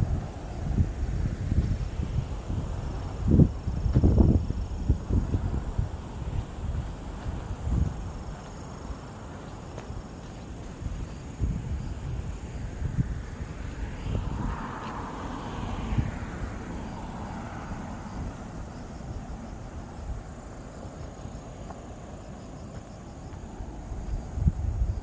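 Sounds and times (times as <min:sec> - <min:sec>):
aircraft droning overhead: 0:00.0 - 0:25.0
high insect trill: 0:00.0 - 0:25.0
wind rumbling on microphone: 0:00.0 - 0:25.0.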